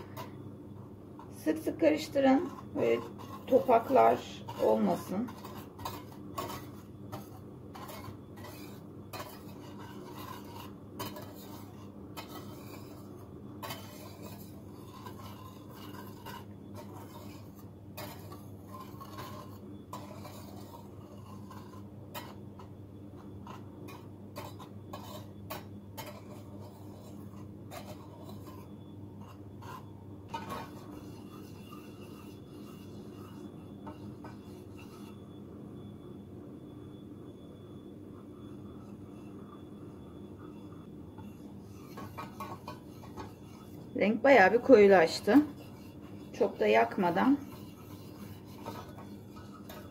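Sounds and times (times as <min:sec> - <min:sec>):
whisk scraping a metal pan: 0:00.0 - 0:35.4, 0:37.4 - 0:49.9
steady low hum: 0:00.0 - 0:49.9.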